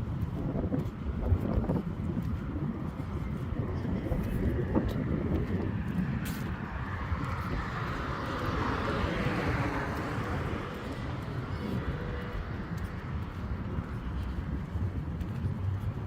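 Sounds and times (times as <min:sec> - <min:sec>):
traffic noise: 0:00.0 - 0:16.0
vehicle passing: 0:02.6 - 0:16.0.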